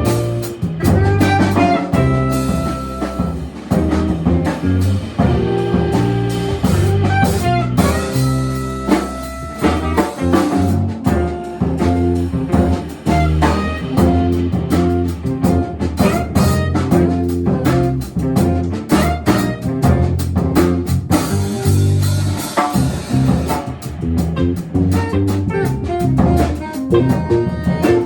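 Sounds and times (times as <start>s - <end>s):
drum kit with cymbals: 0.0s - 28.0s
jazz guitar: 0.0s - 28.0s
walking bass line: 0.0s - 28.0s.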